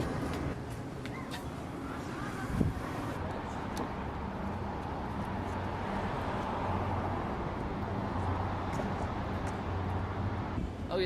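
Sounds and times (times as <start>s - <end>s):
traffic engine hum: 0.0s - 11.0s.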